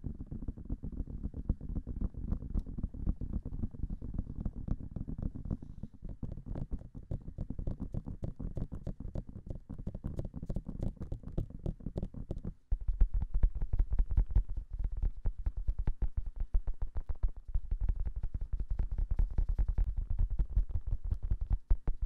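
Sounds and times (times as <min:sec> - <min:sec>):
fingertips tapping on microphone: 0:01.4 - 0:22.0.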